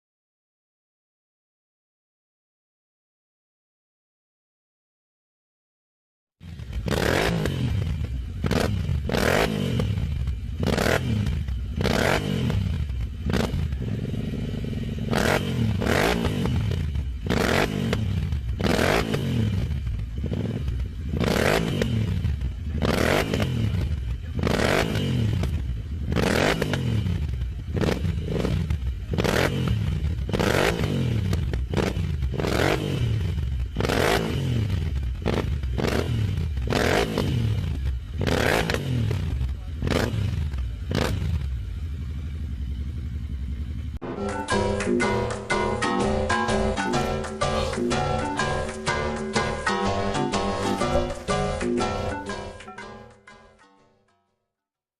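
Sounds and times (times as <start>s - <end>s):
motorcycle engine revving: 6.4s - 53.2s.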